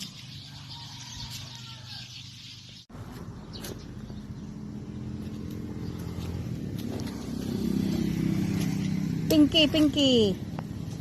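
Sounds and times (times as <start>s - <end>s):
birds calling and chirping: 0.0s - 11.0s.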